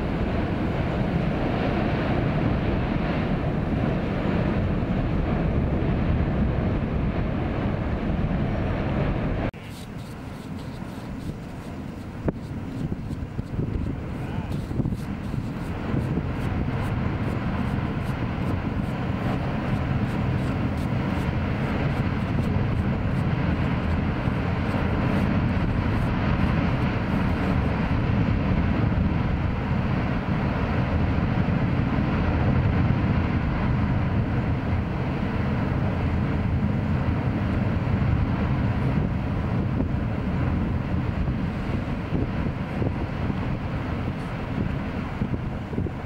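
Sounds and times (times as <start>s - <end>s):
volcanic gas venting roar: 0.0s - 46.0s.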